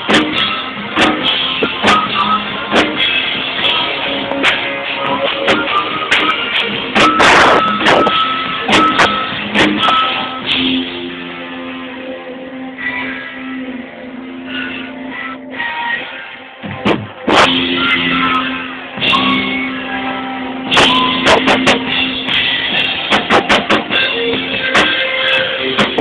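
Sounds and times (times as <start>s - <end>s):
bass guitar: 0.0s - 26.0s
drums: 0.0s - 26.0s
electric guitar: 0.0s - 26.0s.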